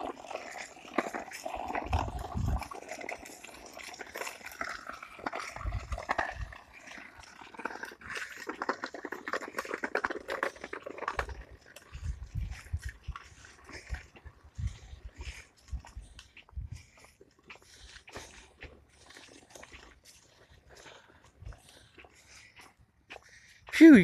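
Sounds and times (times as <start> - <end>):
small clicks and scuffs: 0.0 - 23.8.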